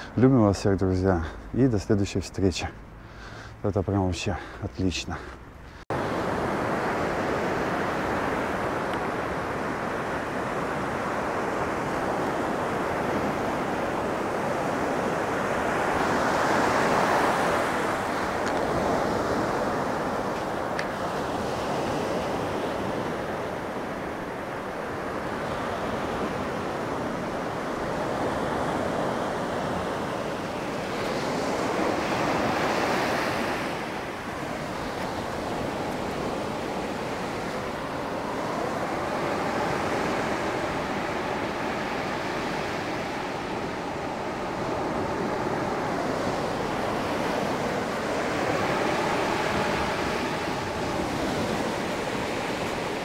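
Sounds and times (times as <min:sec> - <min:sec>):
waves washing up on sandy beach: 0:05.9 - 0:53.0.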